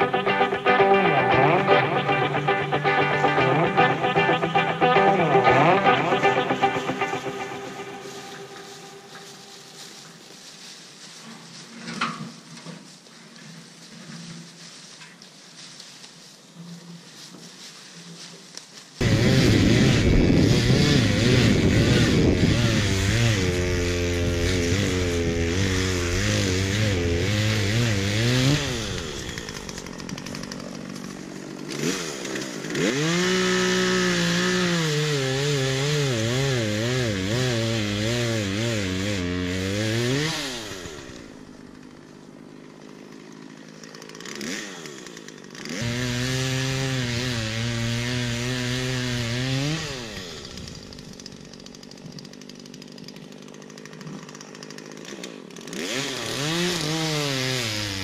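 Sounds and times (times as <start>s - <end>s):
chainsaw cutting wood: 0.0s - 10.7s, 18.6s - 58.0s.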